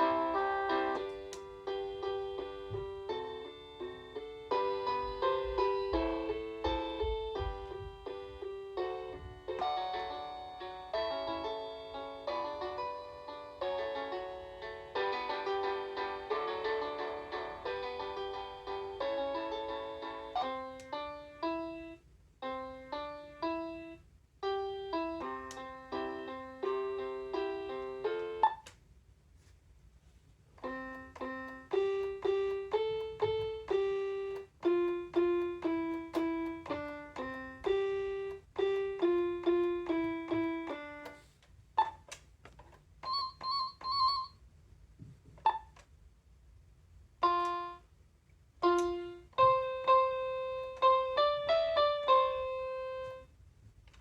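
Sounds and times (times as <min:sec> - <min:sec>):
toy keyboard piano notes: 0:00.0 - 0:28.7, 0:30.6 - 0:41.2, 0:43.0 - 0:44.4, 0:47.2 - 0:47.8, 0:48.6 - 0:53.3.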